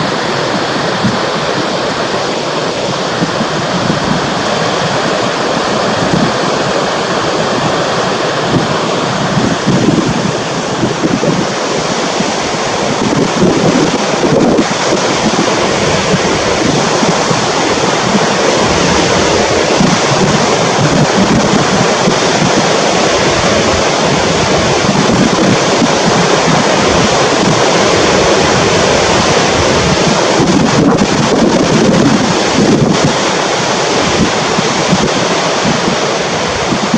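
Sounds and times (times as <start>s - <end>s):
waterfall rushing: 0.0s - 36.9s
wind buffeting microphone: 0.0s - 36.9s.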